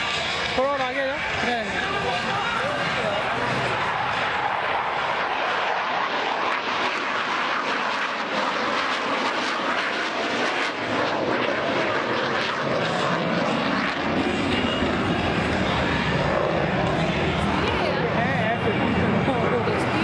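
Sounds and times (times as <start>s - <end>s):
airplane engine drone: 0.0s - 20.0s.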